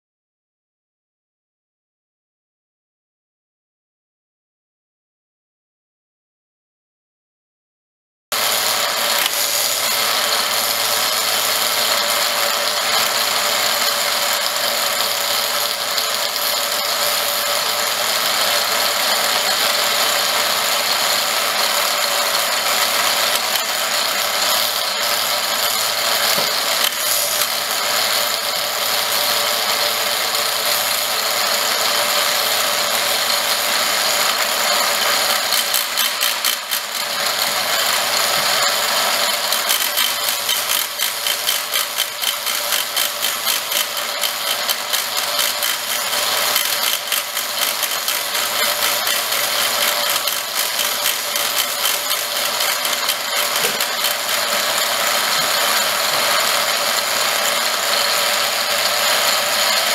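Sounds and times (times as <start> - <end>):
milling machine cutting metal: 8.3 - 59.9.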